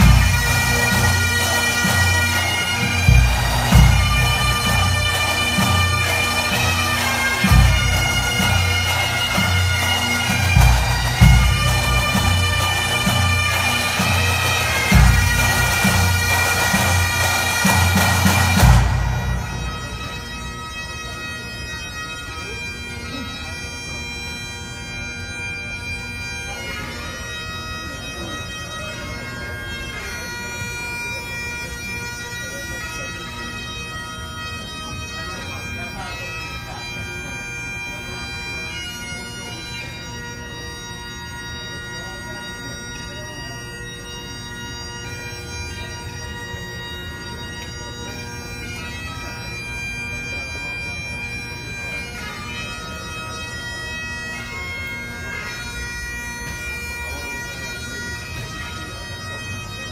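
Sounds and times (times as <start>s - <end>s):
bagpipes playing: 0.0s - 59.9s.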